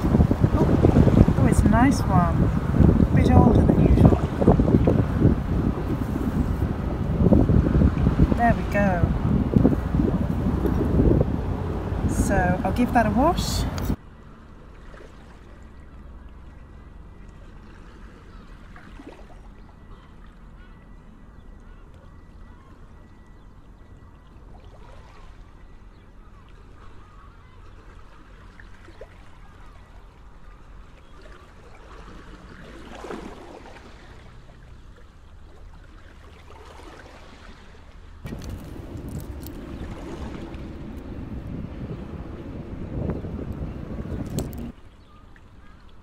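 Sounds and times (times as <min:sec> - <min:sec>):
quiet outdoor background noise: 0:00.0 - 0:46.0.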